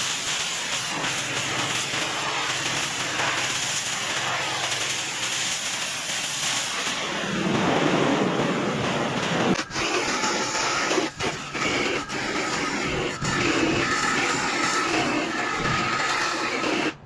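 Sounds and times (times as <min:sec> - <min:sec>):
pressure washer spraying: 0:00.0 - 0:17.0.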